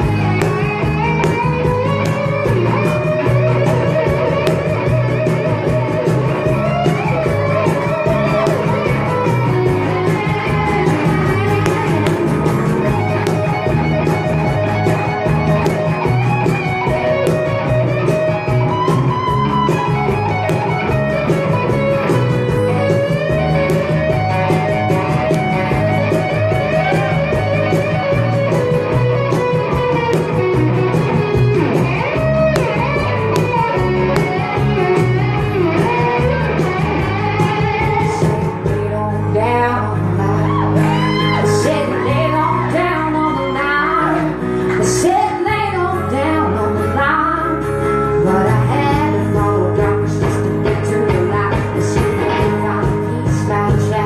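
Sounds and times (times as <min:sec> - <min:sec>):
electric guitar lead with bends: 0:00.0 - 0:54.0
live band music: 0:00.0 - 0:54.0.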